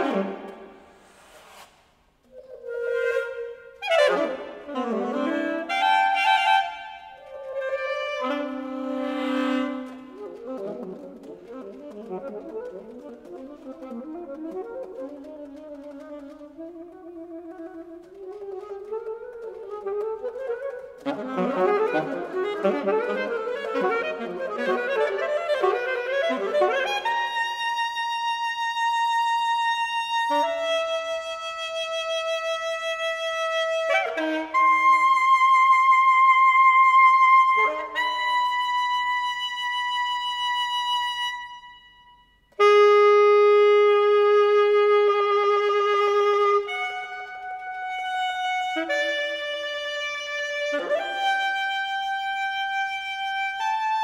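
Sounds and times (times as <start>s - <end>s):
saxophone duet: 0.0s - 54.0s.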